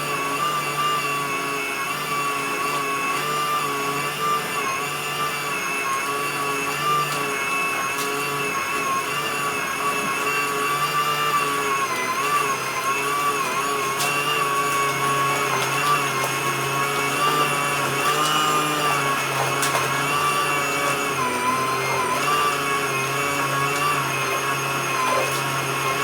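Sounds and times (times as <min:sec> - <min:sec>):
washing machine motor whine: 0:00.0 - 0:26.0.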